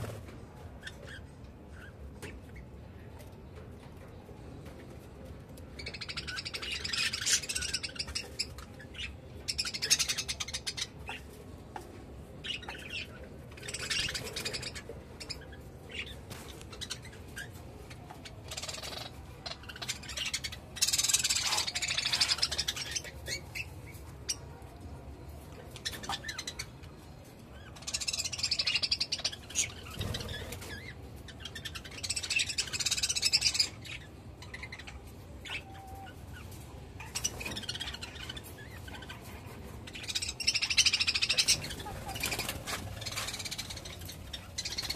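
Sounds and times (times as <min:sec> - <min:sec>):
budgerigars chattering and chirping: 0:05.7 - 0:11.4, 0:12.4 - 0:24.4, 0:25.7 - 0:26.8, 0:27.5 - 0:44.9.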